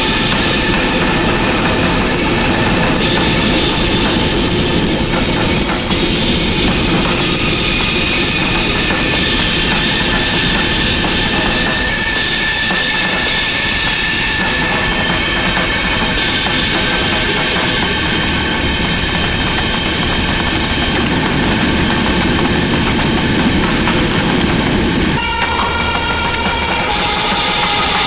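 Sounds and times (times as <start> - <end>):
high steady whine: 0.0 - 28.0.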